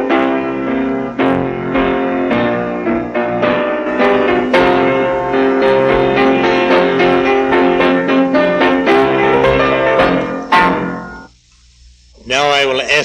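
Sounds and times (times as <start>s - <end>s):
keyboard playing chords: 0.0s - 11.3s.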